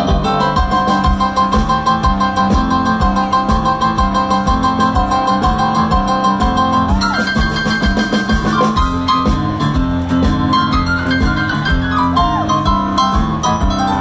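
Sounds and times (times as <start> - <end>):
blues piano: 0.0 - 14.0
drum kit beat: 0.0 - 14.0.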